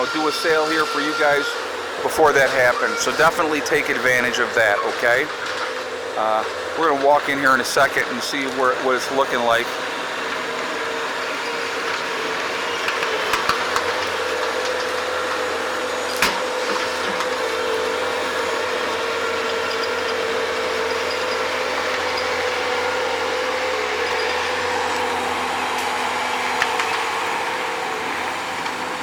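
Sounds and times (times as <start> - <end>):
digging machine engine hum: 0.0 - 29.0.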